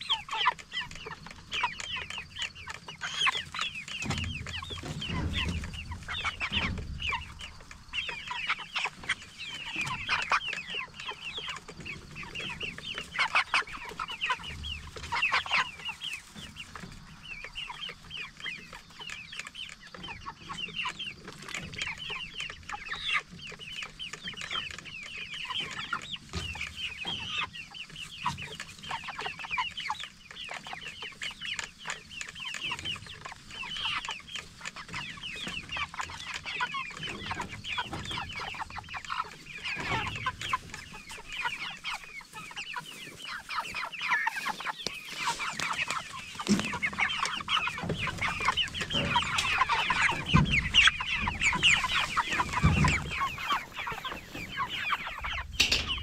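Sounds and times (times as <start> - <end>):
chicks peeping and clucking: 0.0 - 56.0.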